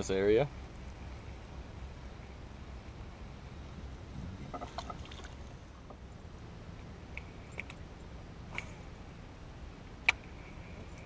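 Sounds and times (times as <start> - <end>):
low rumble: 0.6 - 11.0.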